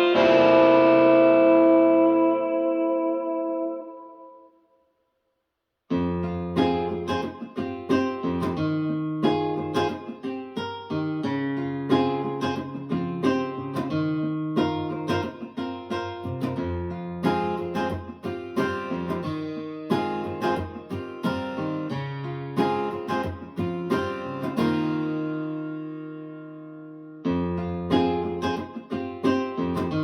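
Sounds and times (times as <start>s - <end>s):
plucked and strummed guitar music: 0.0s - 4.5s, 5.9s - 30.0s.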